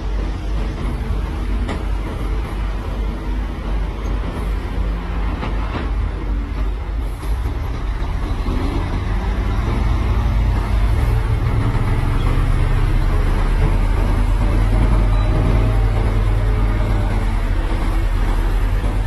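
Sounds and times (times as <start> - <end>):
heavy diesel machinery droning: 0.0 - 19.0.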